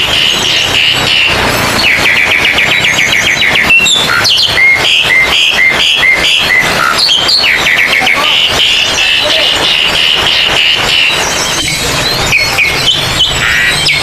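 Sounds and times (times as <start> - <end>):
magpie-robin singing: 0.0 - 14.0.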